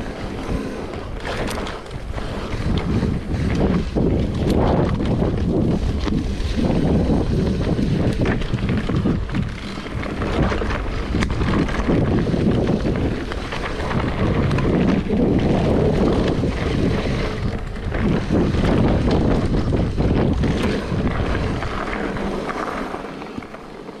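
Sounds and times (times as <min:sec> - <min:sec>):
bike knocks and rattles: 0:00.0 - 0:24.0
bike tyres rumbling on dirt: 0:00.0 - 0:24.0
wind buffeting microphone: 0:00.0 - 0:24.0.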